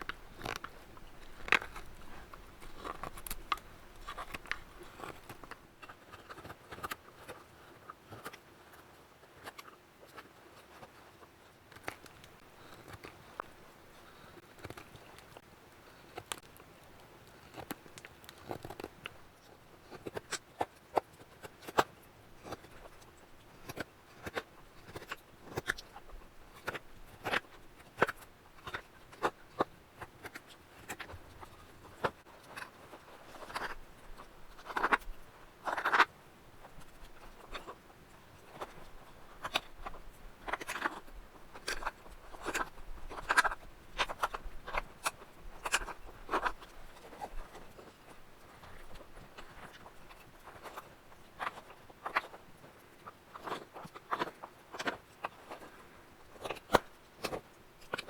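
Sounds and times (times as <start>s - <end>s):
knife carving wood: 0.0s - 7.5s, 11.7s - 23.0s, 23.6s - 37.8s, 38.4s - 52.4s.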